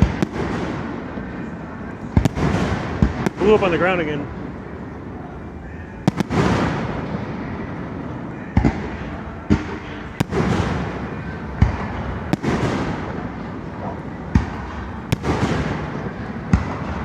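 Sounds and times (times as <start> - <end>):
fireworks bursting with echo: 0.0 - 17.0.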